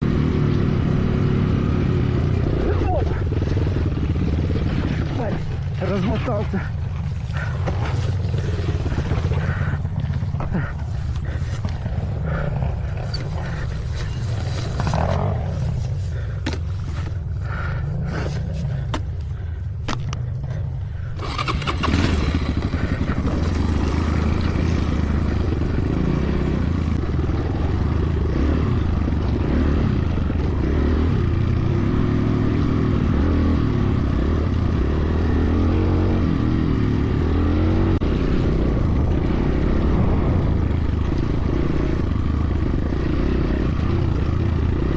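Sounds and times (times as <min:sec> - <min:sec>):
motorcycle engine: 0:00.0 - 0:44.9.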